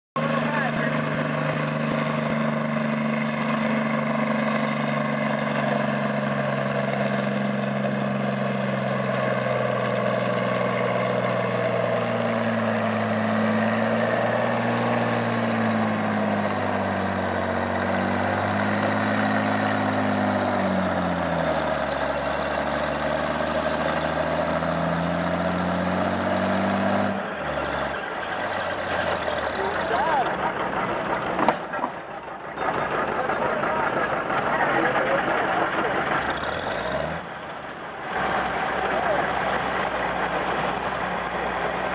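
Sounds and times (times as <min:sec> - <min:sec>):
tractor engine under load: 0:00.2 - 0:41.9.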